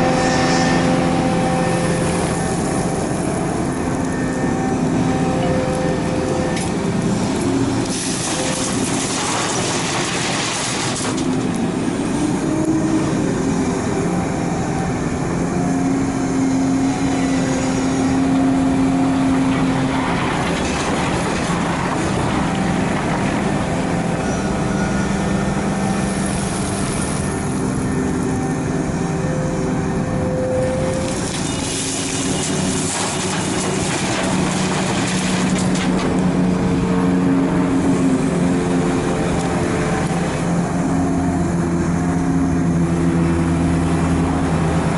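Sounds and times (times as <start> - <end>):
excavator diesel engine: 0.0 - 44.9.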